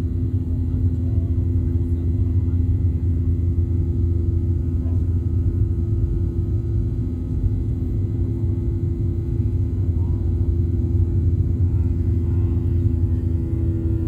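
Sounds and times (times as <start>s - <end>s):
jet engines rumbling in cabin: 0.0s - 14.0s
steady low hum: 0.0s - 14.0s.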